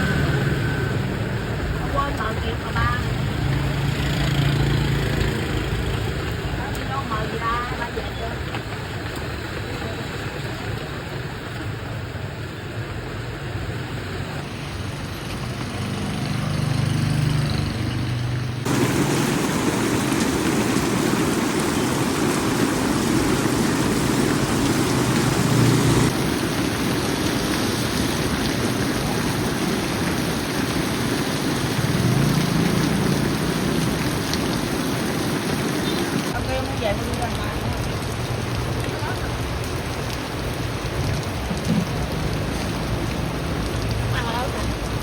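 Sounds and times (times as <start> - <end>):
heavy rain pouring: 0.0 - 17.6, 18.5 - 45.0
street traffic: 0.0 - 45.0.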